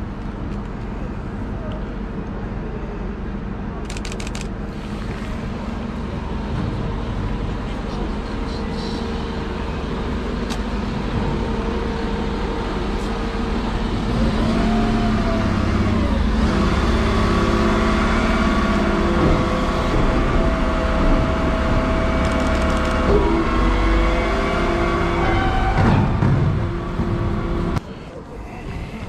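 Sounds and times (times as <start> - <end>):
lorry diesel engine rumbling: 0.0 - 29.0.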